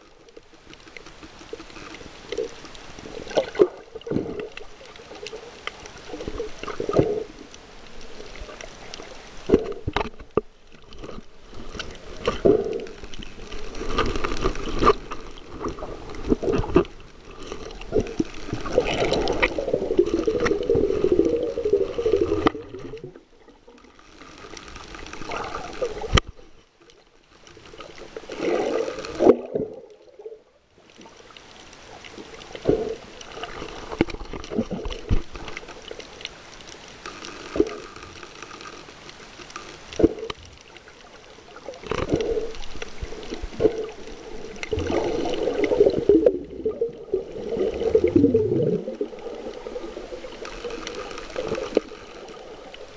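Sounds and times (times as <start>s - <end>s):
muffled underwater swishing and bubbling: 0.0s - 52.9s.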